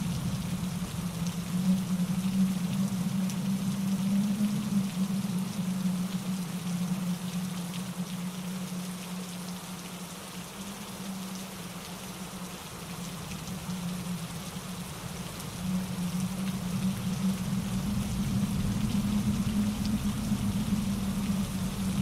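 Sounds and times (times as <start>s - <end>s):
rain falling on trees and rocks: 0.0s - 22.0s
stream rushing over boulders: 0.0s - 22.0s.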